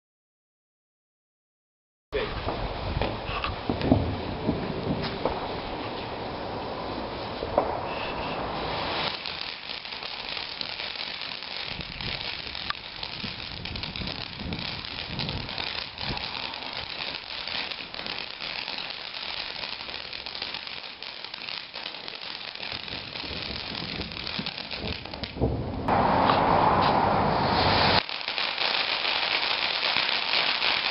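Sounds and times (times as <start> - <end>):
fireworks crackling hiss: 2.2 - 30.9
small firework pops: 2.4 - 6.1, 7.4 - 27.0, 27.9 - 30.9
sharp firework crack: 3.0 - 30.9
loud rush of hissing: 5.4 - 25.2, 25.8 - 30.9.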